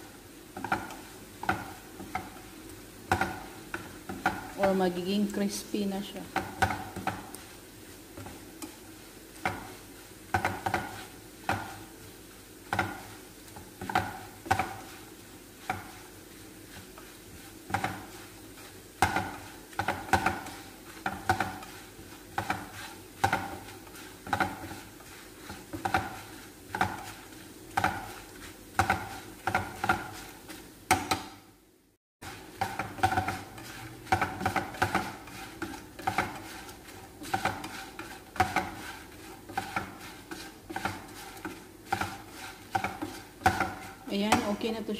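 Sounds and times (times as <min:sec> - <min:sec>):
utensil scraping frying pan: 0:00.0 - 0:31.2, 0:32.2 - 0:44.9
oil sizzling: 0:00.0 - 0:44.9.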